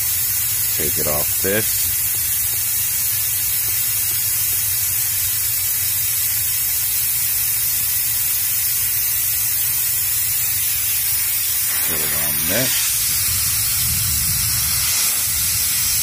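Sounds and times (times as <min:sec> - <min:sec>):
truck cab background hiss: 0:00.0 - 0:16.0.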